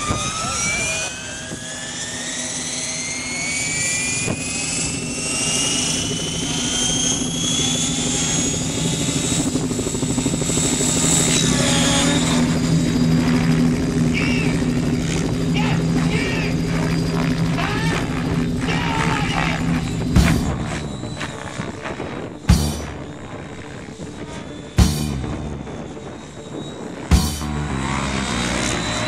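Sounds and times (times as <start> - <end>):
low hum: 0.0 - 29.0
rc helicopter whine: 0.0 - 29.0.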